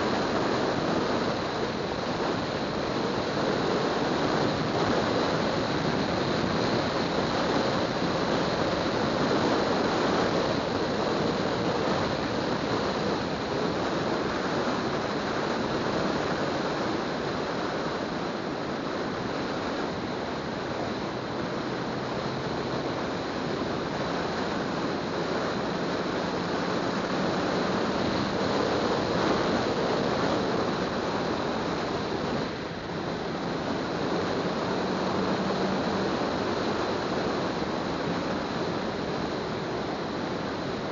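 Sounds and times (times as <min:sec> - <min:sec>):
faint engine drone: 0:00.0 - 0:40.9
tyre noise on paved road: 0:00.0 - 0:40.9.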